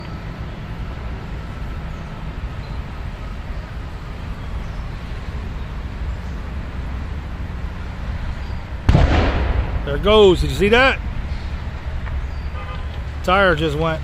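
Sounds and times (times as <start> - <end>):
low rumble of vehicle noise: 0.0 - 14.0.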